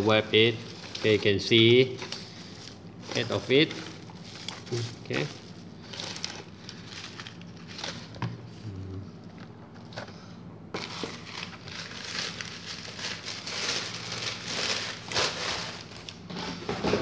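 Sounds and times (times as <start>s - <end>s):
bubble wrap crackling: 0.0s - 8.2s, 10.8s - 16.3s.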